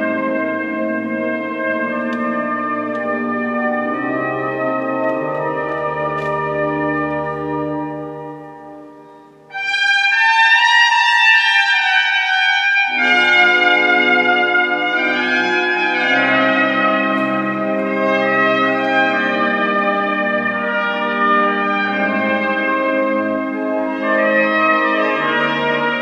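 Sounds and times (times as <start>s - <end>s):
organ accompaniment: 0.0s - 26.0s
trumpet playing slow melody: 0.0s - 26.0s.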